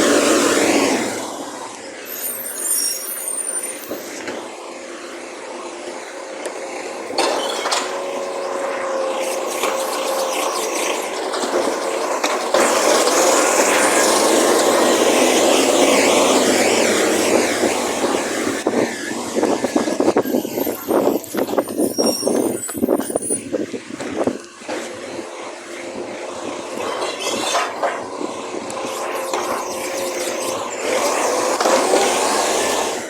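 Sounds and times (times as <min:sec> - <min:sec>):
garbage truck running: 0:00.0 - 0:33.0.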